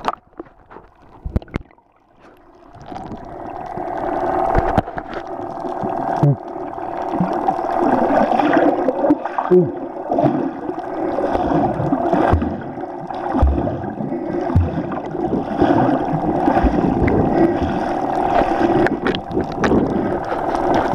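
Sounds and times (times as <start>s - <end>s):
underwater rumble: 0.0s - 20.9s.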